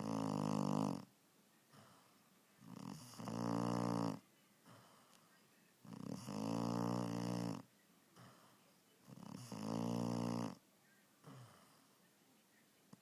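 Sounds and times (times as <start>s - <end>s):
puppy snoring: 0.0s - 5.2s, 5.8s - 10.6s, 11.2s - 12.0s
quiet breathing: 0.0s - 13.0s.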